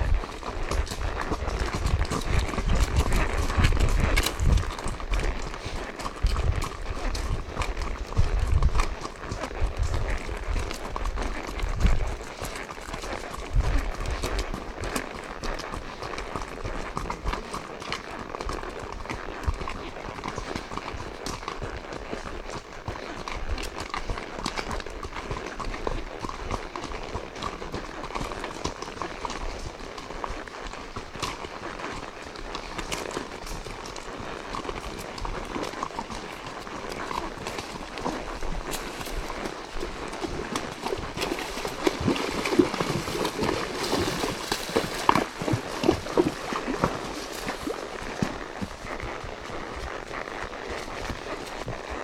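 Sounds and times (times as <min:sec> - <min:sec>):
horse hooves clopping on gravel: 0:00.0 - 0:52.0.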